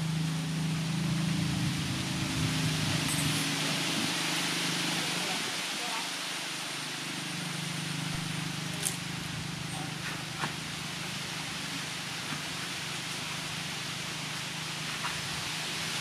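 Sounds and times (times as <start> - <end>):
background hiss: 0.0 - 16.0
low hum: 0.0 - 16.0.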